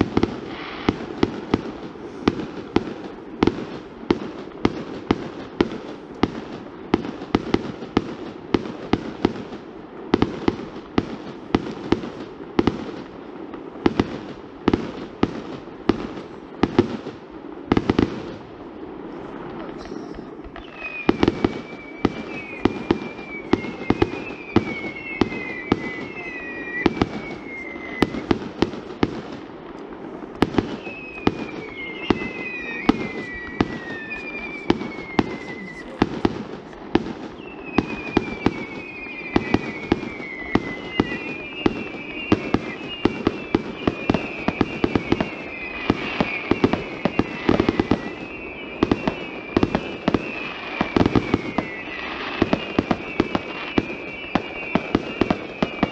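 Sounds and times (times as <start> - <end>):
fireworks bangs: 0.0 - 55.9
fireworks whistles falling in pitch: 0.0 - 55.9.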